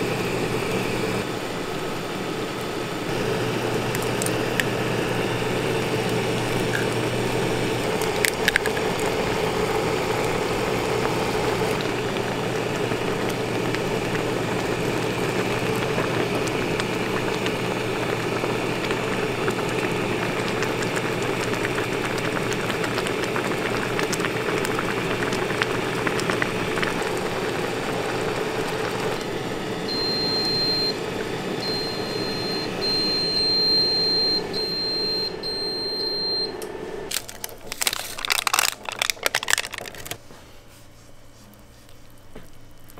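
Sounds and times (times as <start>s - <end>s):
broth boiling: 0.0s - 42.9s
cooker machine humming: 0.0s - 42.9s.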